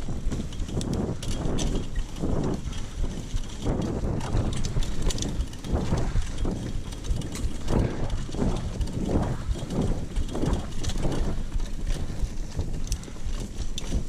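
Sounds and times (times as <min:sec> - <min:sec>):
bike rattling over bumps: 0:00.0 - 0:14.0
tyres rumbling on dirt trail: 0:00.0 - 0:14.0
wind on microphone: 0:00.0 - 0:14.0.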